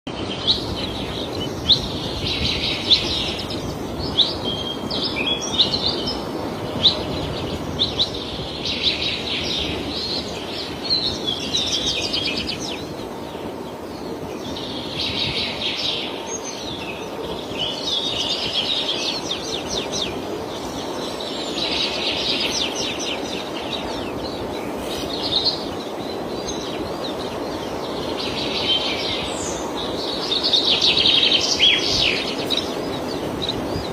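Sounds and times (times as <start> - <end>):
birds chirping: 0.1 - 33.9
steady background noise: 0.1 - 33.9.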